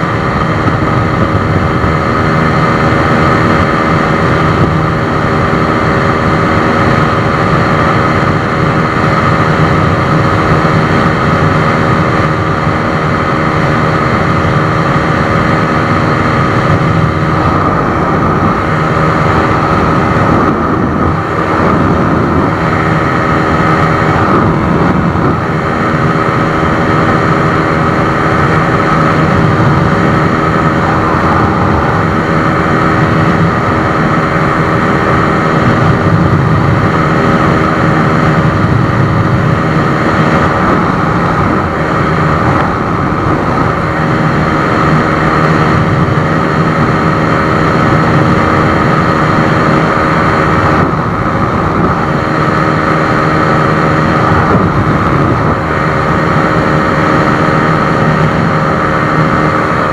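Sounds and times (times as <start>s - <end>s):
motorcycle engine running hard: 0.0s - 59.9s
wind noise on microphone: 0.0s - 59.9s.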